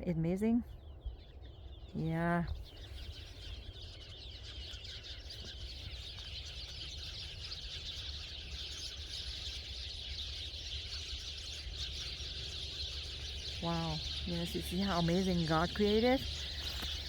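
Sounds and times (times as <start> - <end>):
flock of birds chattering: 0.0 - 17.0.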